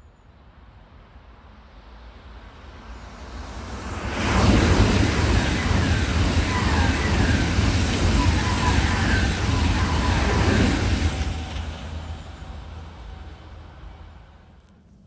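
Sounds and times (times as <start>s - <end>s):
electric trains passing at speed: 0.0s - 15.0s.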